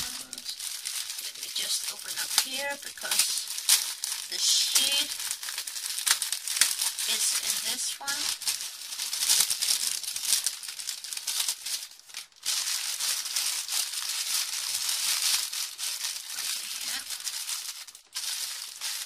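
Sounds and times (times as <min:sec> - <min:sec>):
plastic bag crinkling: 0:00.0 - 0:19.0
small beads rattling in packets: 0:00.0 - 0:19.0.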